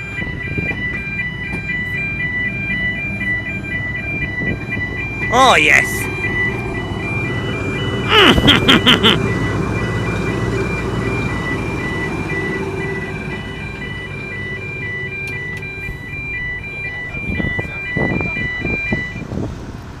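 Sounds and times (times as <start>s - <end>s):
two-tone warning beeper: 0.0s - 19.2s
low engine rumble: 0.0s - 20.0s.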